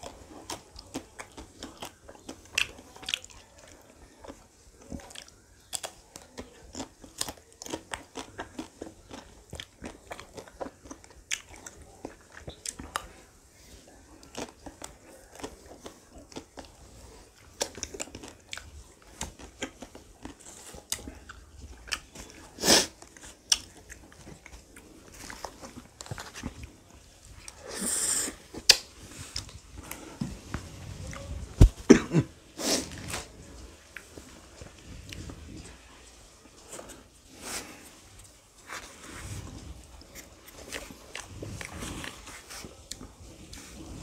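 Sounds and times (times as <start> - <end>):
chewing ice cream crunches: 0.0 - 27.7, 33.0 - 44.0.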